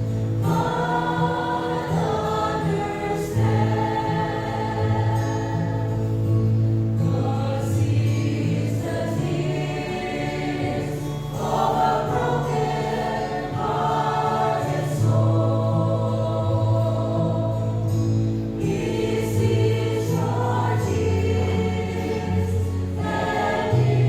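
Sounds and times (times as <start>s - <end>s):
choir singing a hymn: 0.0s - 24.0s.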